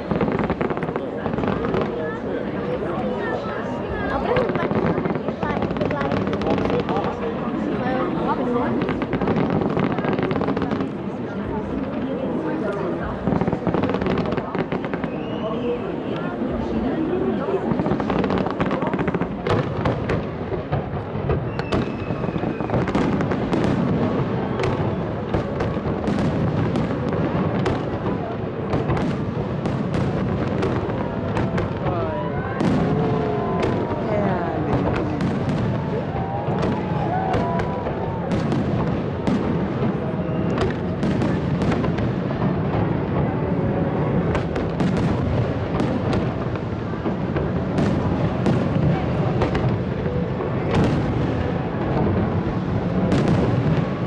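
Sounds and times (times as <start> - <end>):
fireworks bangs and crackles: 0.0 - 54.0
fireworks booming: 0.0 - 54.0.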